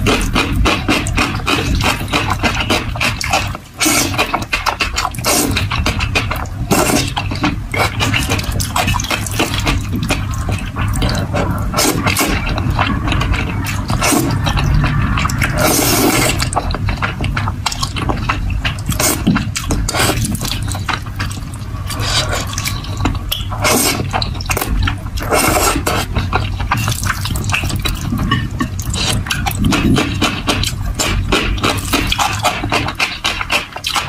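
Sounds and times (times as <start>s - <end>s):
slurping noodles: 0.0s - 34.0s.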